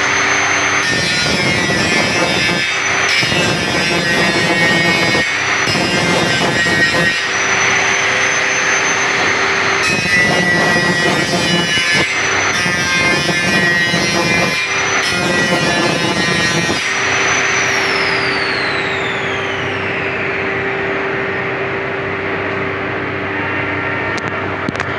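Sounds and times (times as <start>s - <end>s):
blade grinding pass: 0.0s - 20.4s
grinding machine motor: 0.0s - 22.1s.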